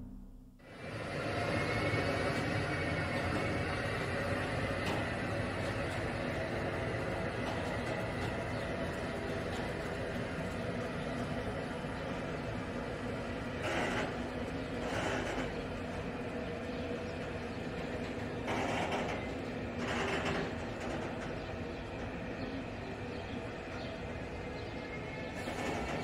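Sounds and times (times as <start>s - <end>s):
train wheels rumbling on track: 0.6s - 26.0s.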